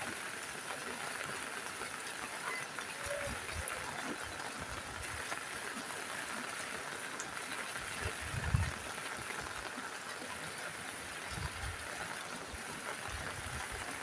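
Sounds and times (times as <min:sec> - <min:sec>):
rain on a roof: 0:00.0 - 0:14.0.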